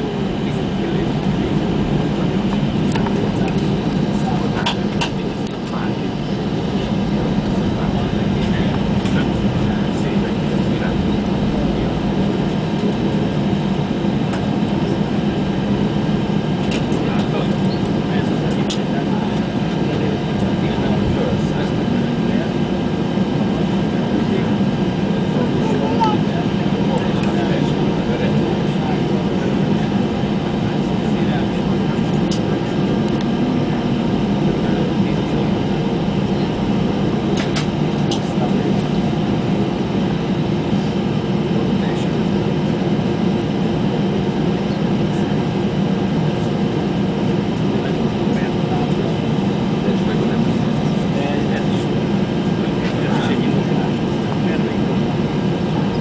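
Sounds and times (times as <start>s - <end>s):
airplane engine hum and rumble: 0.0s - 56.0s.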